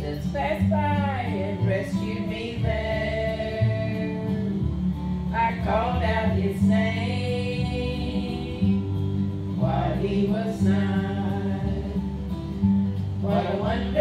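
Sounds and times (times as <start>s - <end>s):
instrumental accompaniment: 0.0s - 14.0s
women singing gospel song: 0.0s - 14.0s.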